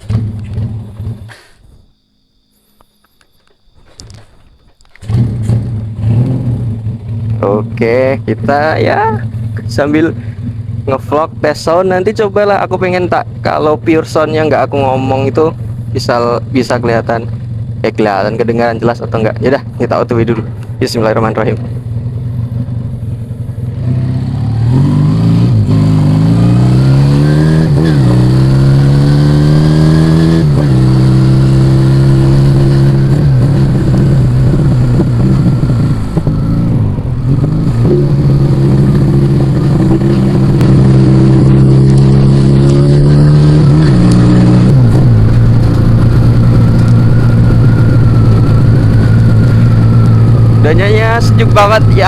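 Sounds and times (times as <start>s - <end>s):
motorcycle engine accelerating: 0.0s - 2.0s, 3.2s - 52.0s.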